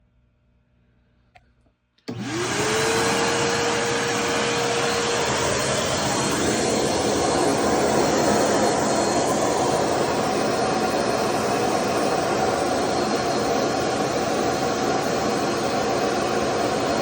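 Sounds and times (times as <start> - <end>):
vacuum cleaner running: 2.1 - 17.0.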